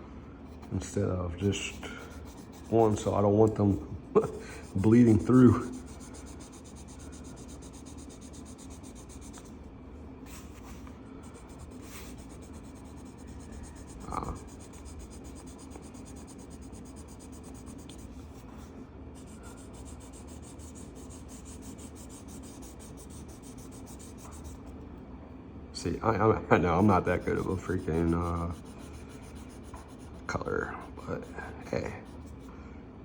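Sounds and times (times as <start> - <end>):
coloring strokes scratching paper: 0.5 - 9.6, 10.3 - 24.7, 26.7 - 32.5.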